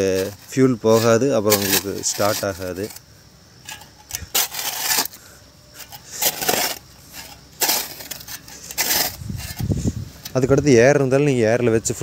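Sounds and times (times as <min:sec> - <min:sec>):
small metal parts clinking: 0:00.0 - 0:03.0, 0:03.6 - 0:10.4.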